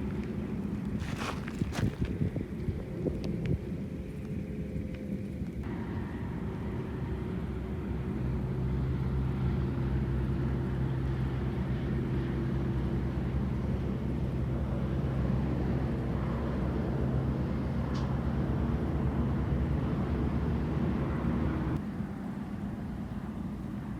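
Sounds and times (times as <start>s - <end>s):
road noise: 0.0s - 23.9s.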